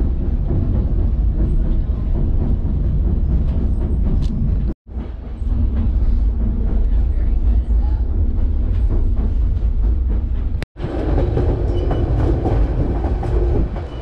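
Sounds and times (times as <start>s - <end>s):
rail joints clicking: 0.0s - 14.0s
train wheels rumbling on rails: 0.0s - 14.0s.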